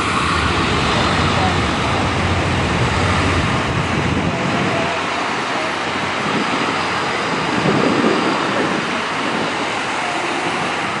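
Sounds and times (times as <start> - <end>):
emergency vehicle sirens: 0.0 - 11.0
street traffic: 0.0 - 11.0
wind on microphone: 0.0 - 11.0.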